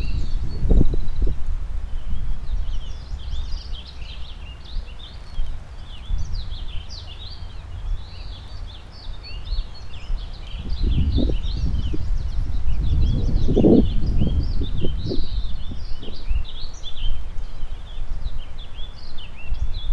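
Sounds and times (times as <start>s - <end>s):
songbirds chirping and trilling: 0.0s - 19.9s
wind buffeting microphone: 0.0s - 19.9s.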